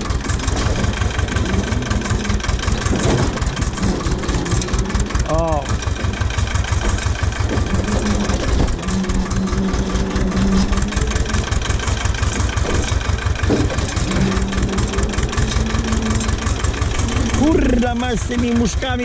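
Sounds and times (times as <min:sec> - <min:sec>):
steady humming tone: 0:00.0 - 0:18.6
diesel tractor engine running: 0:00.0 - 0:19.0.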